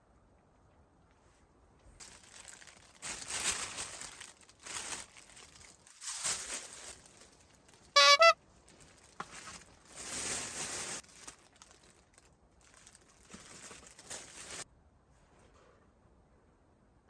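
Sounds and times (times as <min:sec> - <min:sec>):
crinkling and rustling: 0:01.0 - 0:15.8.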